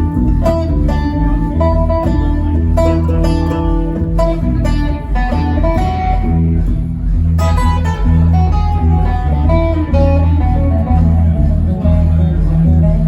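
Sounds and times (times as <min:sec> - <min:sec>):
bass guitar: 0:00.0 - 0:13.0
strummed and picked guitars: 0:00.0 - 0:13.0.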